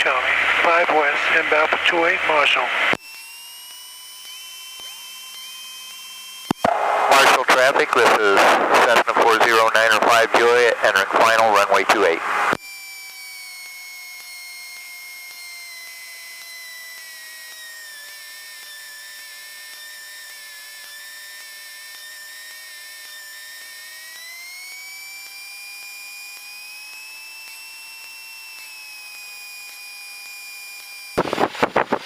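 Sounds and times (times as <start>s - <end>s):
aircraft engine whine: 0.0s - 32.0s.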